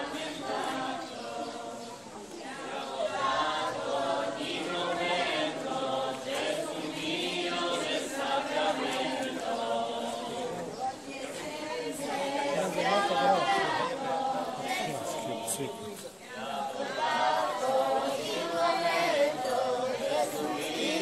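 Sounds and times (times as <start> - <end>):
crowd singing a hymn: 0.0 - 21.0.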